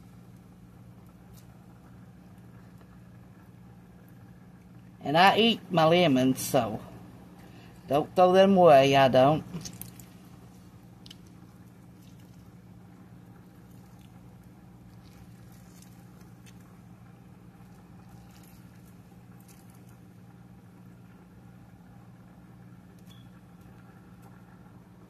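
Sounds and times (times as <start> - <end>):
juice dripping on lettuce: 0.0 - 5.0, 9.4 - 25.0
lemon squishing by hand: 0.0 - 5.0, 6.7 - 25.0.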